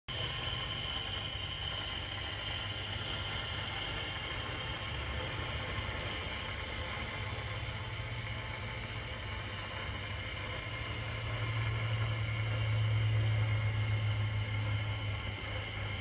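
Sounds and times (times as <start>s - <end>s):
electric motor hum: 0.1s - 16.0s.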